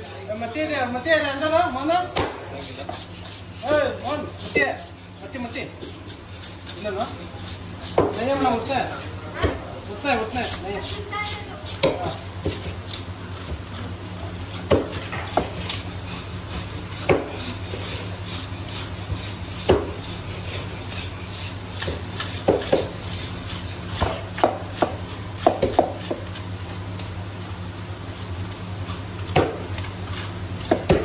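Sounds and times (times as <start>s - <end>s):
steady low hum: 0.0s - 31.0s
tool scraping fish scales: 0.7s - 9.1s, 9.8s - 31.0s.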